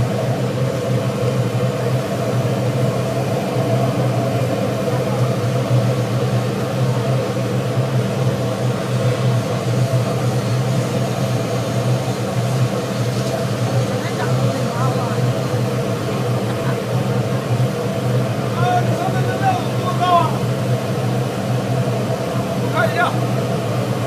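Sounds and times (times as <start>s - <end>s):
machinery low hum: 0.0s - 24.0s.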